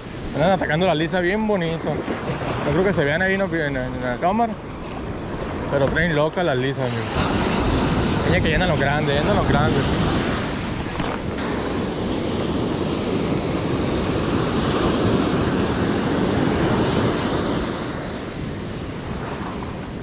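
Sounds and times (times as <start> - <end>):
ocean surf breaking on sand: 0.0 - 20.0.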